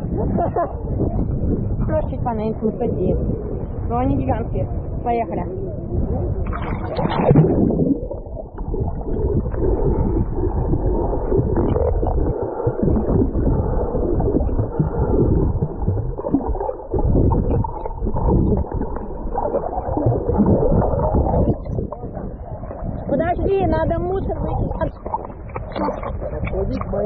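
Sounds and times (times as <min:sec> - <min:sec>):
underwater water churning and bubbling: 0:00.0 - 0:27.0.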